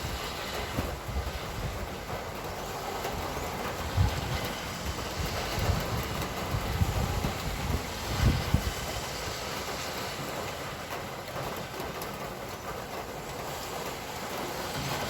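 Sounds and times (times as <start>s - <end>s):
low traffic rumbles: 0.0s - 15.0s
road traffic hiss: 0.0s - 15.0s.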